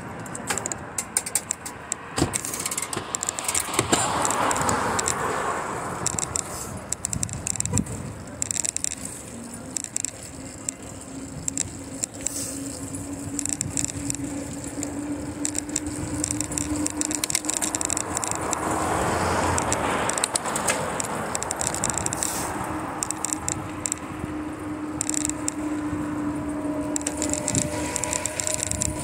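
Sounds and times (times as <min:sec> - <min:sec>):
bicycle clicks and rattles: 0:00.0 - 0:29.0
rush of traffic noise: 0:00.0 - 0:29.0.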